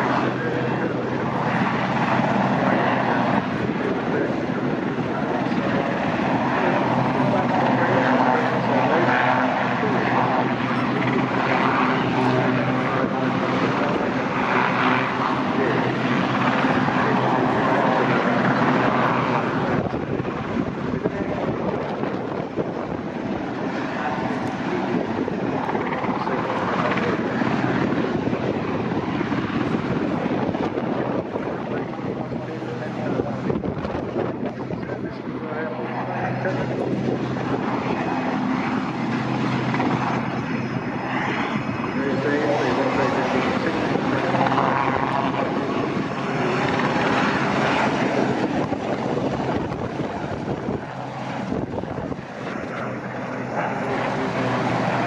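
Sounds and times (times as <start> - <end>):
helicopter rotor chop: 0.0 - 55.0.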